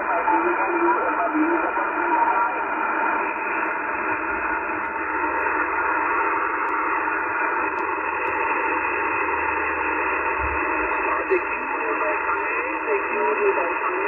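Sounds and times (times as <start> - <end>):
radio band noise hiss: 0.0 - 14.0.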